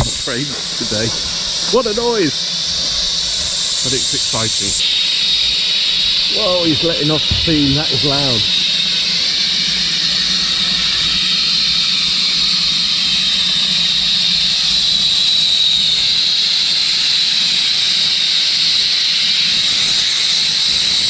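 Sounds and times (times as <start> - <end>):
steam locomotive hissing: 0.0 - 21.0.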